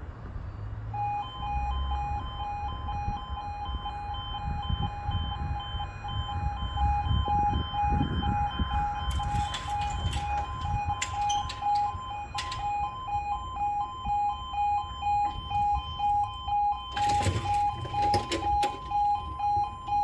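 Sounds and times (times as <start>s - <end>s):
low traffic rumble: 0.0s - 20.0s
two-tone warning alarm: 0.8s - 20.0s.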